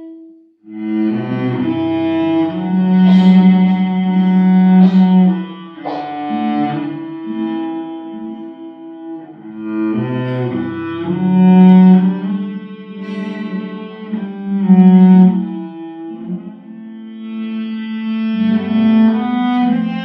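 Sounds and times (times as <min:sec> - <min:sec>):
cello playing long notes: 0:00.0 - 0:20.0.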